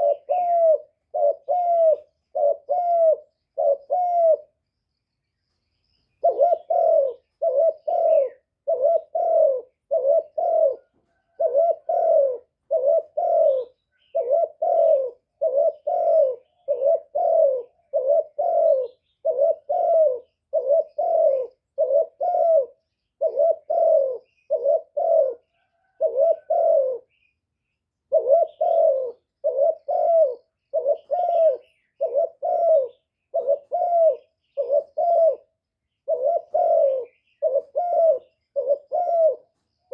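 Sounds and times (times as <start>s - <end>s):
dove cooing: 0.0s - 4.6s, 6.2s - 27.3s, 27.9s - 39.9s.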